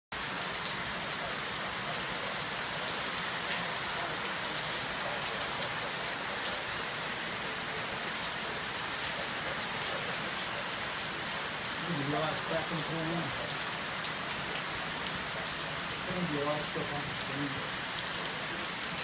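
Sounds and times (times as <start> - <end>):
heavy rain pouring: 0.1 - 19.0.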